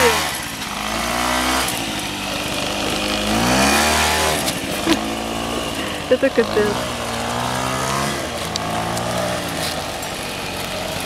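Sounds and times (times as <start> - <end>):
two-stroke scooter engine revving: 0.0 - 11.0.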